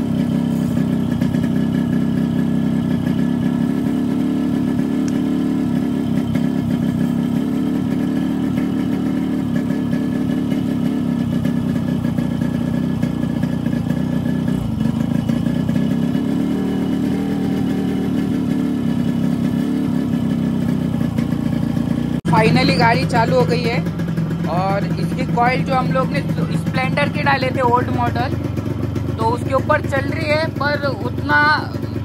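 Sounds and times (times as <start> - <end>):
two-stroke motorcycle engine running: 0.0 - 32.0.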